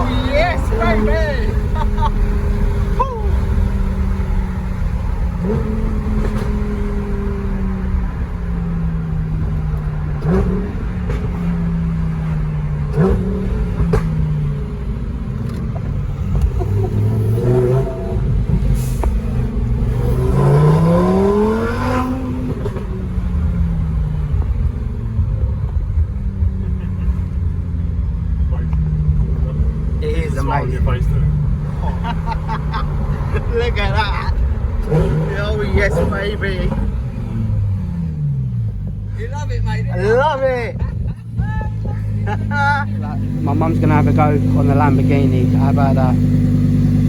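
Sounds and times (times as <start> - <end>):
sports car engine accelerating: 0.0 - 47.0.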